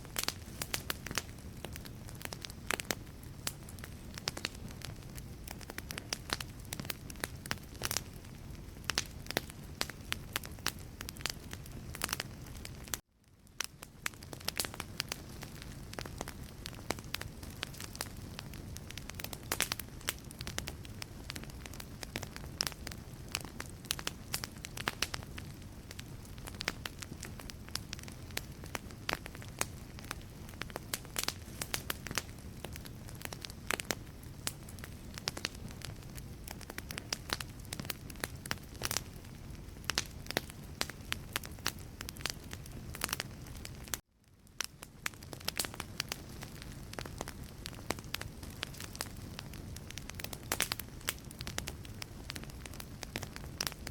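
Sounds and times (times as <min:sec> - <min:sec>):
fireplace logs crackling and popping: 0:00.0 - 0:53.9
low rumble of flame: 0:00.0 - 0:53.9.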